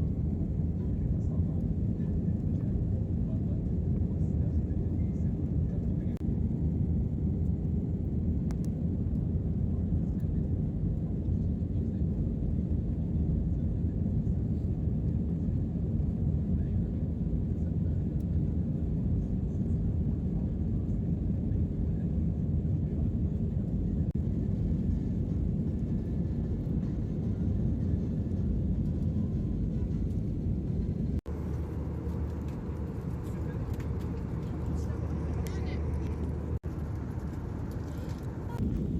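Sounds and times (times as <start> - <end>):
airliner cabin rumble in flight: 0.0 - 38.9.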